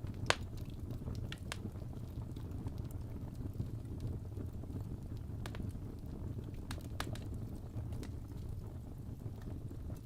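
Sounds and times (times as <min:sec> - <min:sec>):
fire rumbling: 0:00.0 - 0:10.0
logs crackling and popping: 0:00.0 - 0:10.0.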